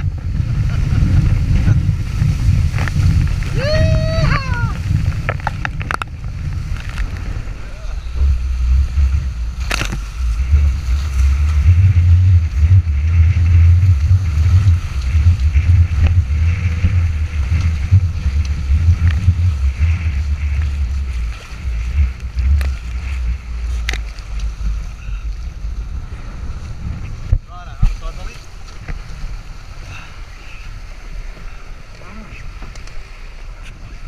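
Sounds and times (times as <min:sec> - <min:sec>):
water rushing past hulls: 0:00.0 - 0:34.0
wind buffeting microphone: 0:00.0 - 0:34.0.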